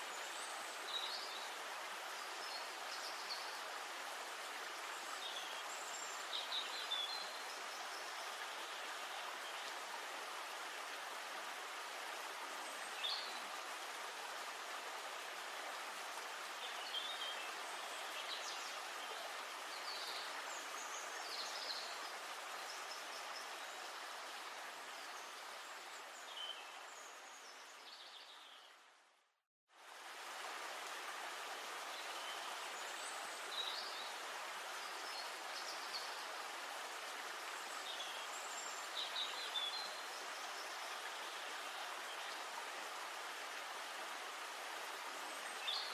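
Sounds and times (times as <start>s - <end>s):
river water hiss: 0.0s - 28.9s, 29.7s - 45.9s.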